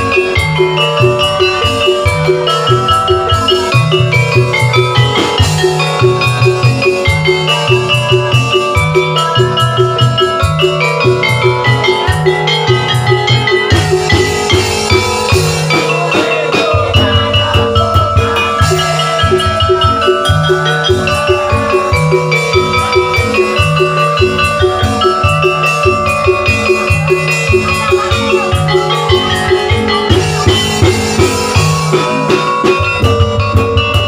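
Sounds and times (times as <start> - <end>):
bamboo and mallet percussion: 0.0 - 34.0
steady drum beat: 0.0 - 34.0.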